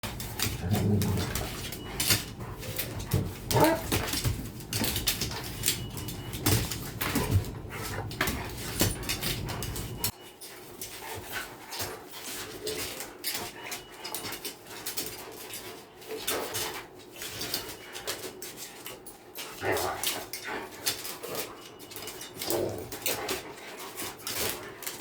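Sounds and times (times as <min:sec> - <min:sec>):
clicks and knocks of scuffling: 0:00.0 - 0:25.0.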